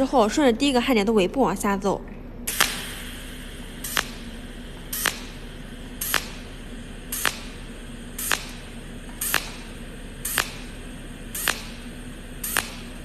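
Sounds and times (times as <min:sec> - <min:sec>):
steady low hum: 0:00.0 - 0:13.0
welding arc snaps: 0:02.5 - 0:13.0.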